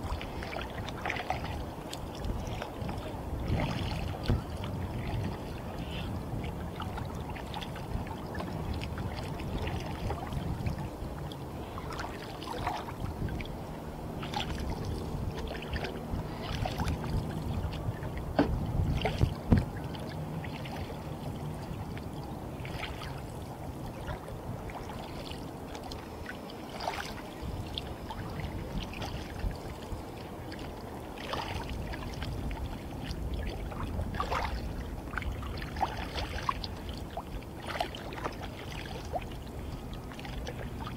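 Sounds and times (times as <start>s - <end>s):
choppy water wash: 0.0s - 40.9s
paddle blades splashing: 0.0s - 40.9s.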